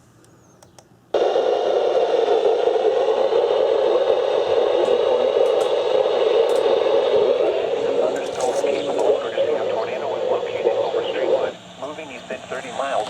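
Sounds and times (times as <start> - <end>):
radio static hiss: 1.2 - 13.0.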